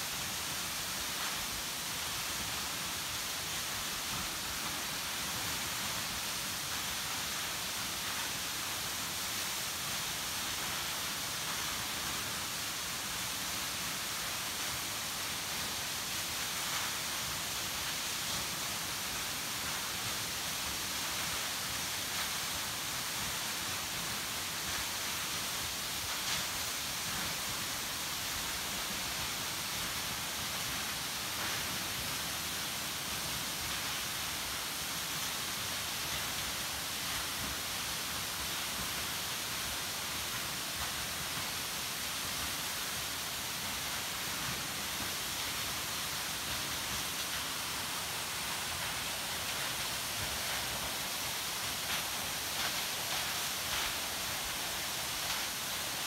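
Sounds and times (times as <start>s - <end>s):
waterfall rushing onto rocks: 0.0s - 56.0s.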